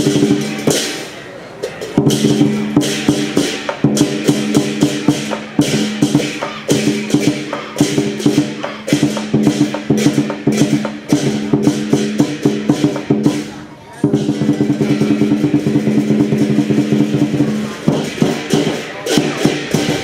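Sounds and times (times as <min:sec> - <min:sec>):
cymbal crashes: 0:00.0 - 0:20.0
rapid drum strikes: 0:00.0 - 0:20.0.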